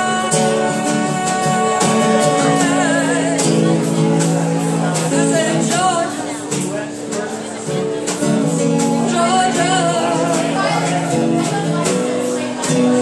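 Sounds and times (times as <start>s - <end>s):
acoustic guitar: 0.0s - 13.0s.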